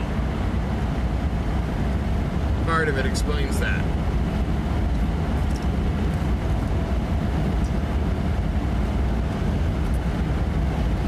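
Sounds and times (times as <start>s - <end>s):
car interior road and engine noise: 0.0s - 11.0s.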